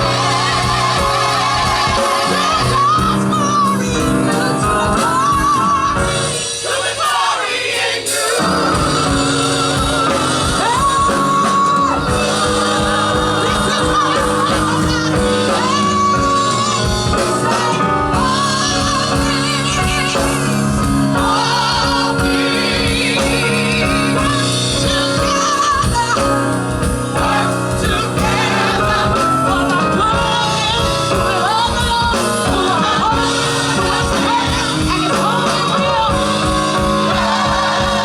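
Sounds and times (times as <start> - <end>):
bass: 0.0 - 7.1, 8.3 - 38.0
drum beat: 0.0 - 38.0
gospel group singing: 0.0 - 38.0.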